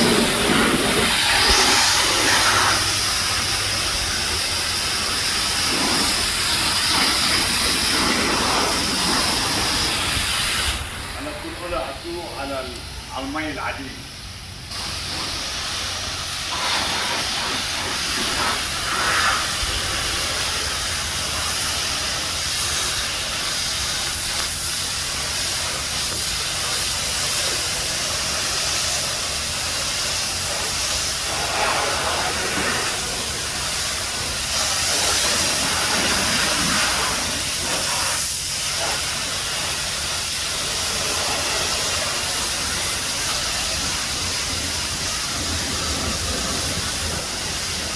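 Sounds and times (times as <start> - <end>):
high-pressure spray wand hissing: 0.0 - 11.1, 14.1 - 47.9.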